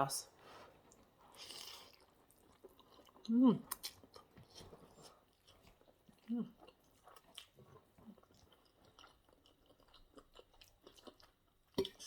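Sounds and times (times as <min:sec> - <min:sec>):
person chewing food: 0:00.7 - 0:12.0.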